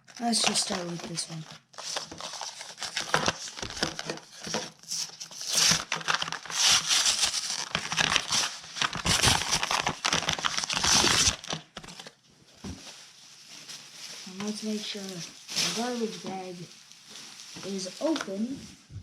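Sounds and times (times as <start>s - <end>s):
plastic packaging crinkling: 0.0s - 18.6s.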